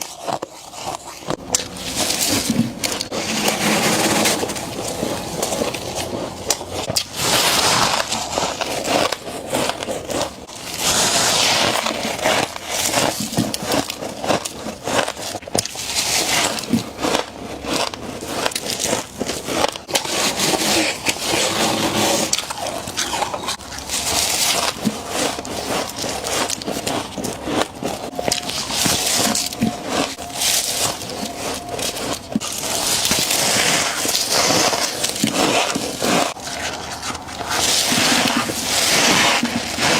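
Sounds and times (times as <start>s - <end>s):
frost crunching when chewed: 0.0s - 39.9s.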